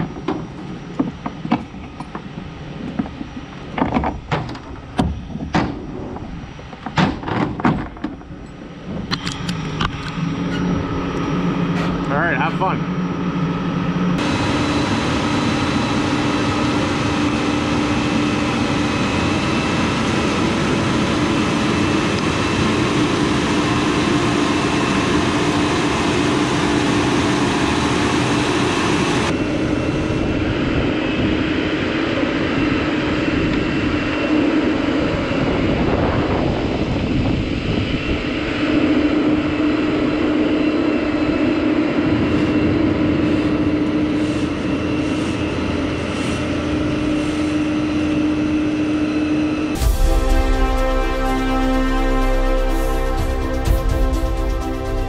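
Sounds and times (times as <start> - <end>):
drone propellers humming: 0.0 - 55.0.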